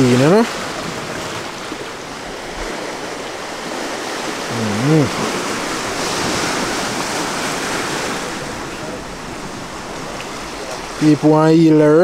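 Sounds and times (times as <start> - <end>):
surf rushing at shore: 0.0 - 12.0.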